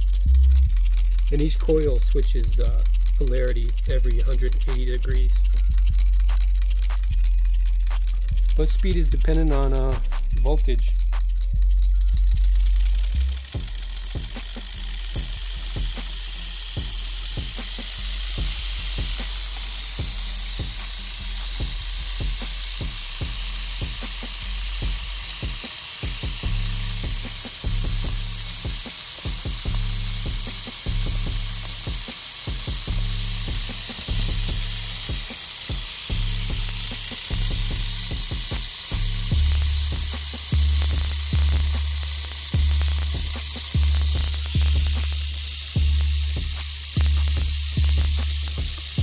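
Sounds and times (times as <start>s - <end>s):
background music with bass: 0.0s - 49.0s
small electric motor hissing: 0.0s - 49.0s.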